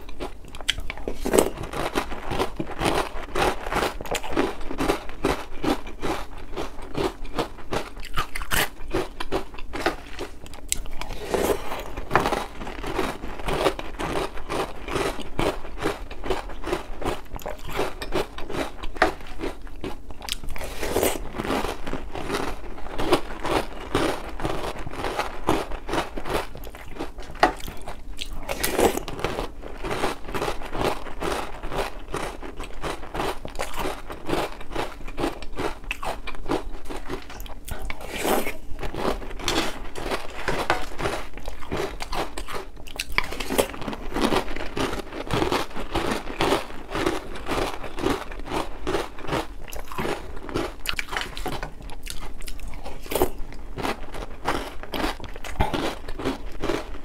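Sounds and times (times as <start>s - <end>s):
chewing crunchy cereal: 0.0s - 57.0s.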